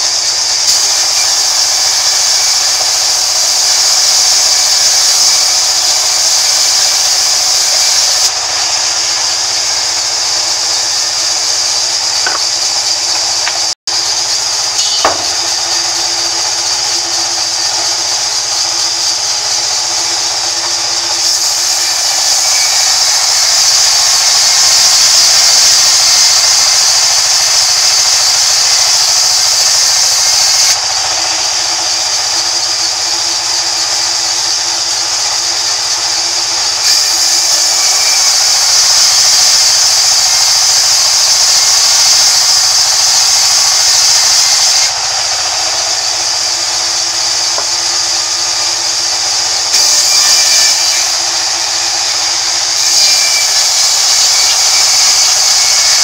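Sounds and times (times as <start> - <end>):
band saw humming: 0.0 - 56.0
saw blade cutting wood hiss: 0.0 - 56.0.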